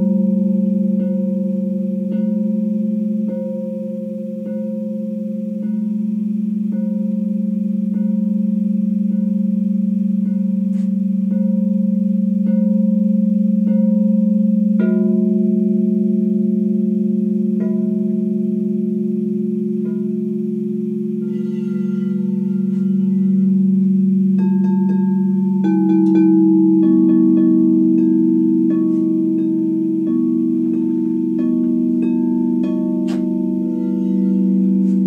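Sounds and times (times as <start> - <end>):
deep steady tone: 0.0 - 35.0
singing bowls ringing: 0.0 - 35.0.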